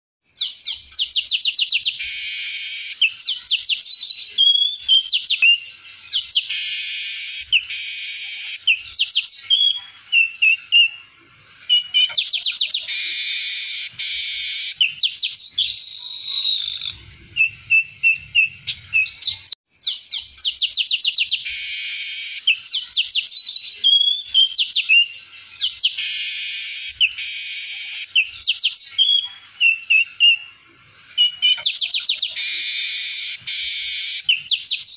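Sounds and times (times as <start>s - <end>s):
bird chirping and buzzy song: 0.2s - 34.9s.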